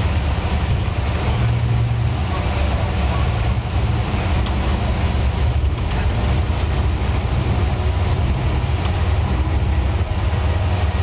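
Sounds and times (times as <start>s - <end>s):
bus engine drone: 0.0s - 11.0s
road and body noise: 0.0s - 11.0s.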